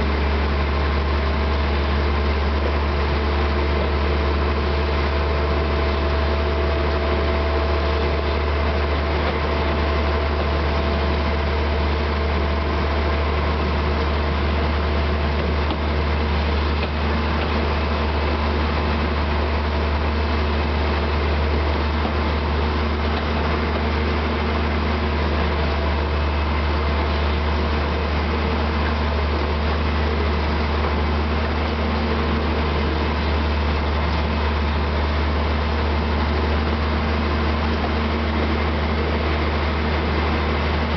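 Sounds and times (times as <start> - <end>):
diesel locomotive running: 0.0 - 40.9.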